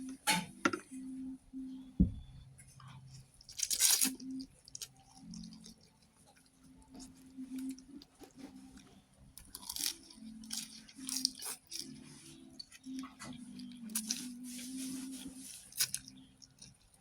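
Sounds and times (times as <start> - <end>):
person chewing: 3.1 - 17.0.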